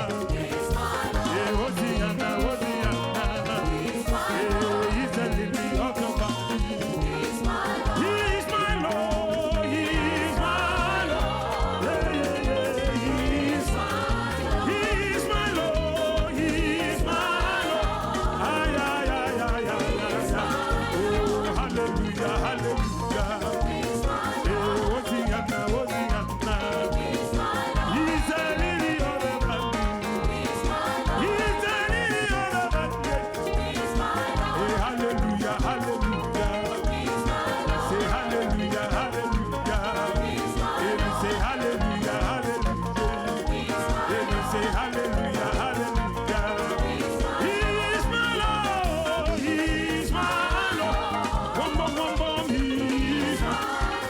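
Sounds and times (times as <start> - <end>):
upbeat gospel music with singing: 0.0 - 54.0.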